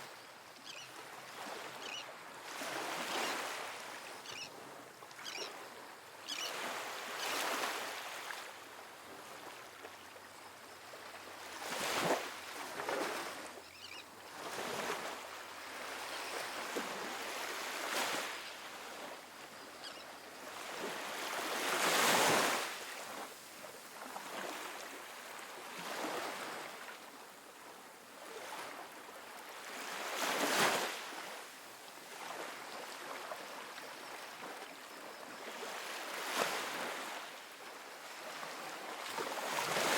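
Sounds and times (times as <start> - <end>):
ocean waves breaking on beach: 0.0 - 9.9, 10.7 - 39.9.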